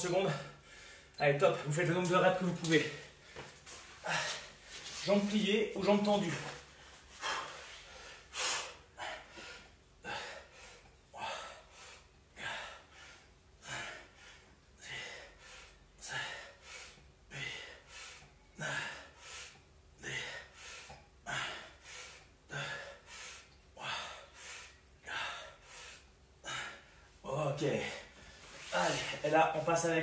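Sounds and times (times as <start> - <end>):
man breathing hard: 0.2 - 1.2, 2.8 - 5.1, 6.4 - 29.2.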